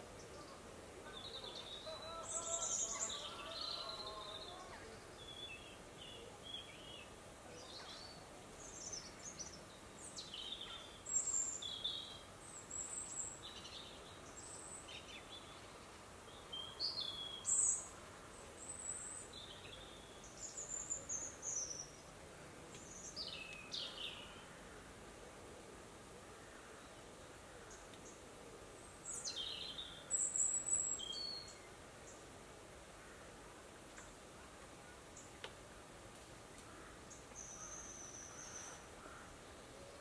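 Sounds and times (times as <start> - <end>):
faint background hiss: 0.0 - 40.0
songbirds chirping: 0.0 - 40.0.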